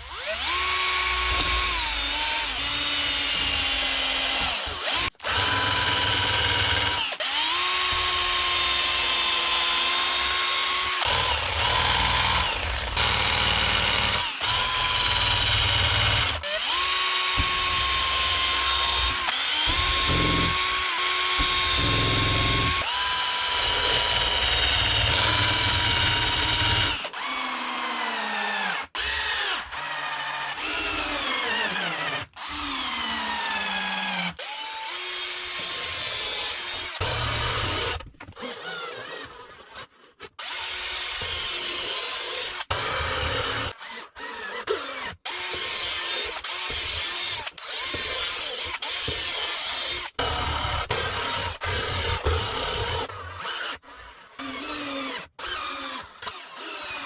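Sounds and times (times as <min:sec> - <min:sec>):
power tool motor whining: 0:00.0 - 0:57.0.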